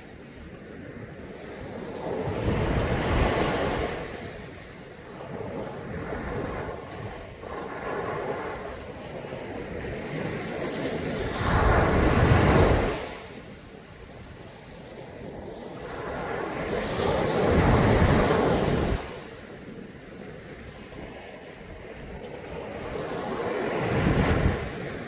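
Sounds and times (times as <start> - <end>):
waves crashing on a beach: 0.0 - 25.0.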